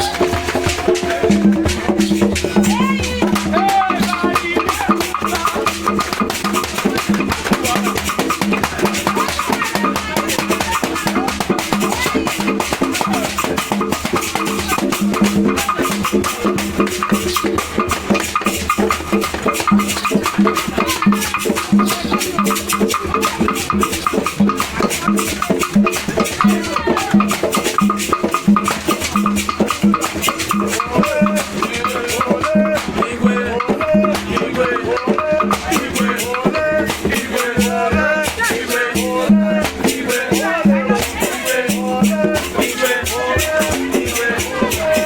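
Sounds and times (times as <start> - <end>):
drums beating: 0.0 - 45.0
rattling shaker: 0.0 - 45.0.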